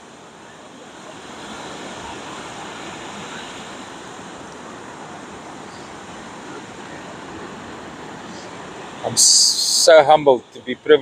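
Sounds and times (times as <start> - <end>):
ocean waves on a beach: 0.0 - 11.0
wind: 0.0 - 11.0.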